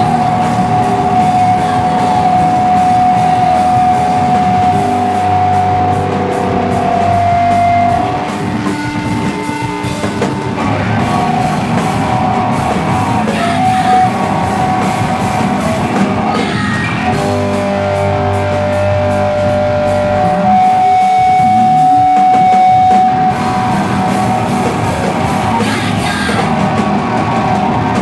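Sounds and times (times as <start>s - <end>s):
distorted electric guitars: 0.0s - 28.0s
drums: 0.0s - 28.0s.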